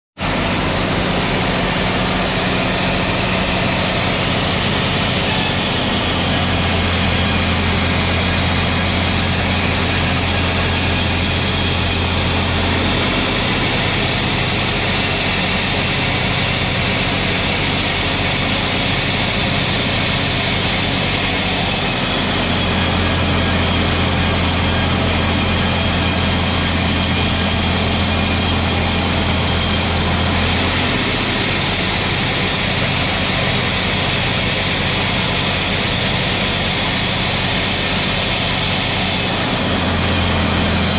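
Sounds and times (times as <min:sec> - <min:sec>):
sawmill machinery sawing log: 0:00.2 - 0:40.9.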